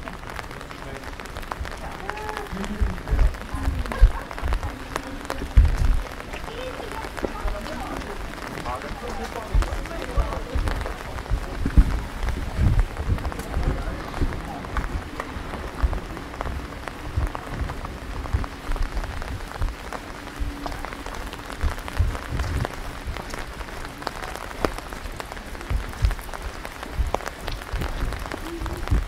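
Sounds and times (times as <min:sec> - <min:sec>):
rain falling: 0:00.0 - 0:29.0
low thumps: 0:01.1 - 0:29.0.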